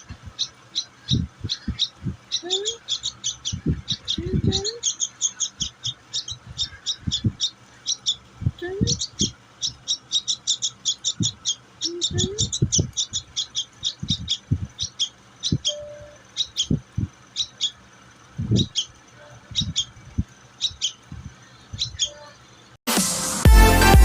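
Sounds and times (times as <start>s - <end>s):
bird chirping: 0.0s - 22.8s.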